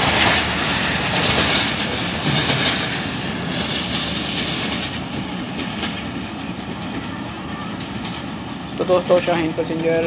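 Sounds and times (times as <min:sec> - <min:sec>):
train coaches rolling over rails: 0:00.0 - 0:10.0.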